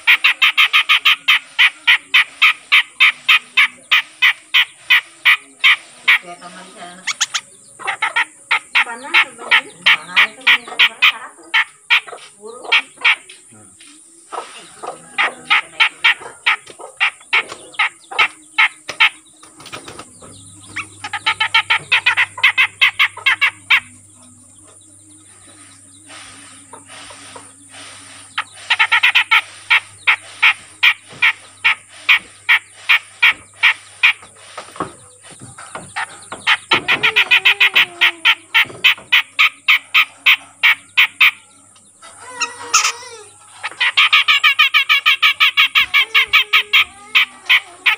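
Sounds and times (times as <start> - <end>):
bird calling sharp repeated notes: 0.0 - 14.6, 15.3 - 24.1, 25.4 - 34.8, 42.1 - 47.9.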